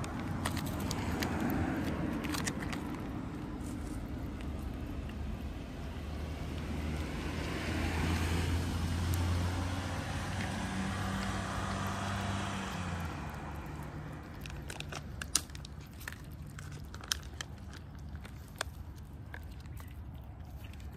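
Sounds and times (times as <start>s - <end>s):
vehicle engine hum: 0.0s - 20.9s.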